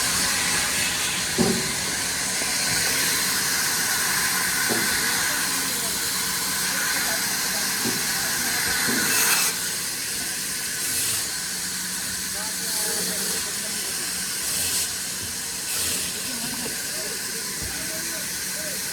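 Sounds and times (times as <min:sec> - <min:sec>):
woodworking machinery hiss and hum: 0:00.0 - 0:18.9.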